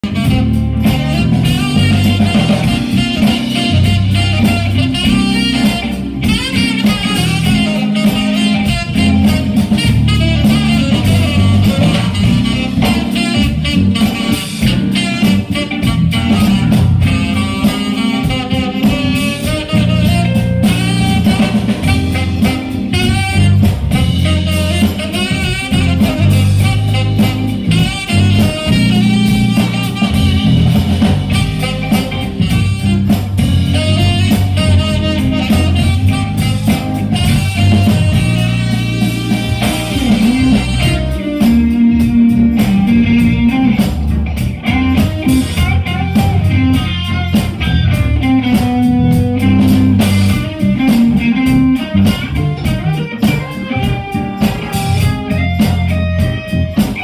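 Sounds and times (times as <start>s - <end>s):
drum kit: 0.0s - 57.0s
electric bass groove: 0.0s - 57.0s
electric guitar: 0.0s - 57.0s
keyboards: 0.0s - 57.0s
saxophone melody: 0.0s - 57.0s.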